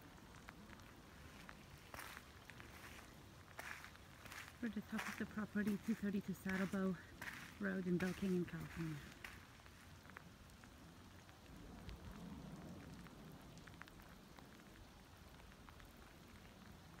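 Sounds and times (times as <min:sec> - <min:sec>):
light rain drops ticking: 0:00.0 - 0:17.0.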